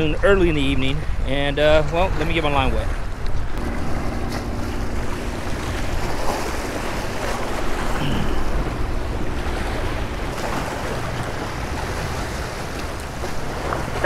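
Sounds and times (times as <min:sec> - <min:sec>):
surf splashing against boulders: 0:00.0 - 0:14.0
wind rumbling on microphone: 0:00.0 - 0:14.0.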